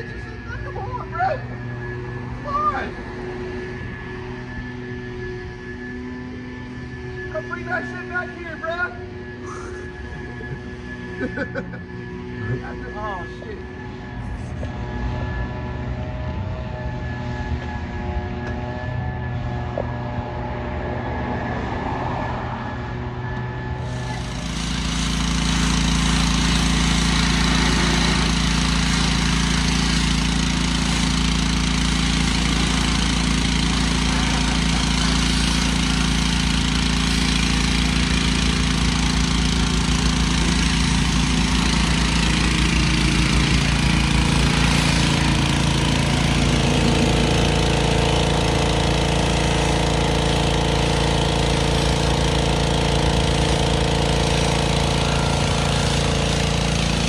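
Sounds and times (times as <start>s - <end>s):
pressure washer hum: 0.0s - 57.0s.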